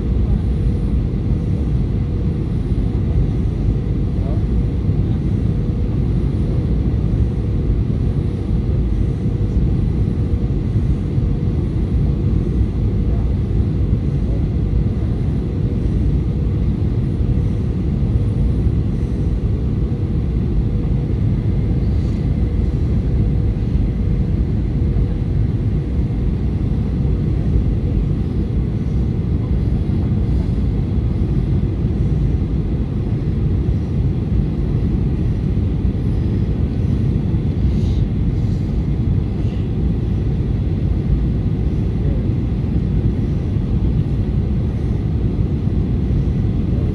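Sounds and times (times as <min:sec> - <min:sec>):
jet engines rumbling: 0:00.0 - 0:46.9
thin steady hum: 0:00.0 - 0:46.9.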